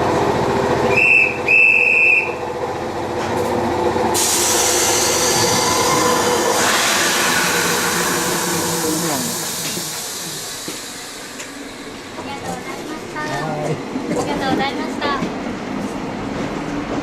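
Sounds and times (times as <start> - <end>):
train rumble and hiss: 0.0 - 17.0.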